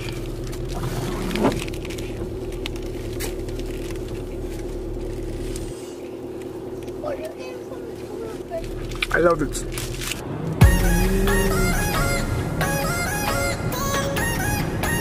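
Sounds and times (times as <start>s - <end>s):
car idling from inside: 0.0s - 15.0s.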